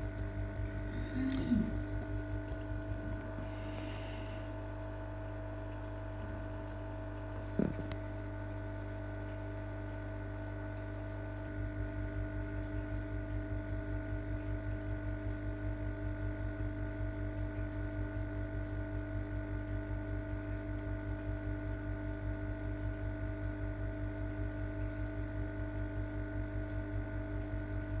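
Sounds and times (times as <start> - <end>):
aquarium pumps humming: 0.0 - 28.0.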